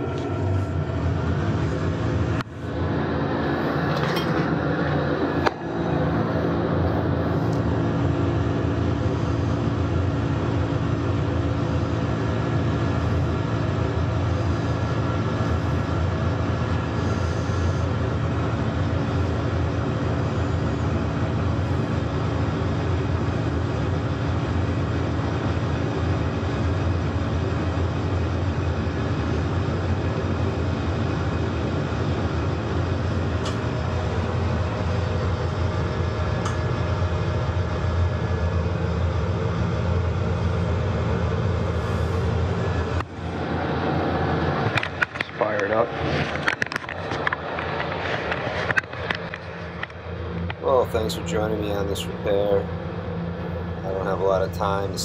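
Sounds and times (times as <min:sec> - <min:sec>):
boiler burner rumble: 0:00.0 - 0:55.0.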